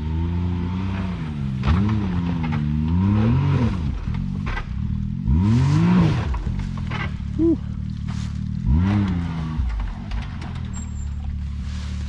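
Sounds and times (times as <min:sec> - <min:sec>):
engine revving: 0:00.0 - 0:10.8.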